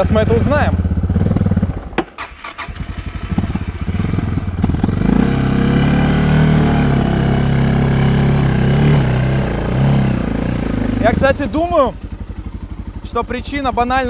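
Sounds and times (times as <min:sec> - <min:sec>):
motorcycle engine starting and running: 0:00.0 - 0:14.0.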